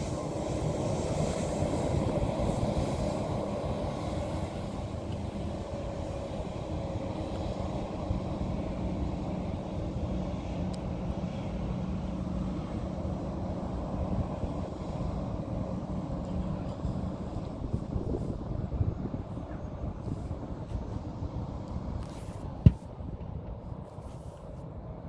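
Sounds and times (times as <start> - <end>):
distant jet engine rumble: 0.0 - 25.0.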